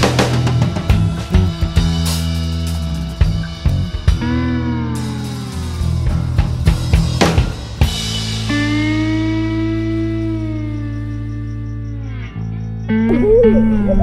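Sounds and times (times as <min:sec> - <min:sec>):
low bass notes: 0:00.0 - 0:14.0.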